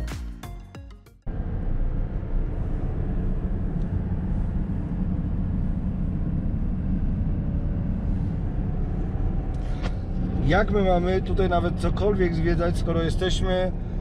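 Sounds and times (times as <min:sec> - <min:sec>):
car cabin road rumble: 0:01.3 - 0:14.0.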